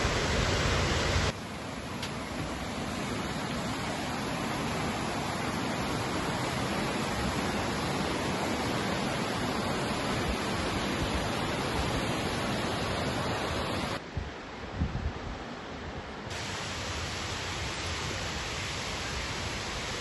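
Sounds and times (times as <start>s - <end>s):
creek water rushing: 0.0s - 14.6s, 15.5s - 20.0s.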